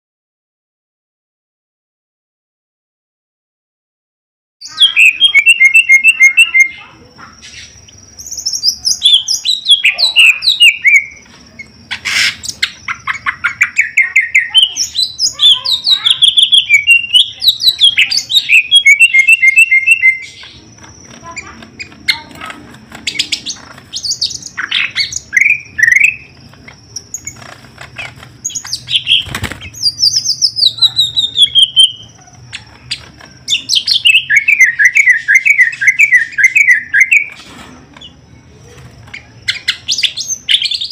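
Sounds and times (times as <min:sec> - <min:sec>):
bird singing trills and whistles: 0:04.6 - 0:40.9.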